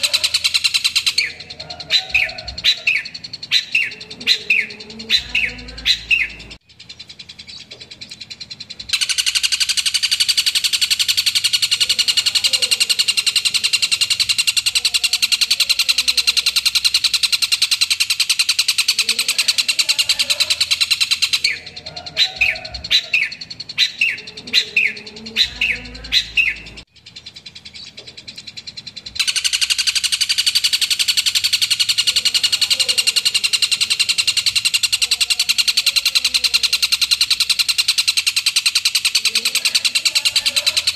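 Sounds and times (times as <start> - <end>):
bird sharp chirps: 0.0 - 40.9
shrike singing fast chatter: 0.0 - 40.9.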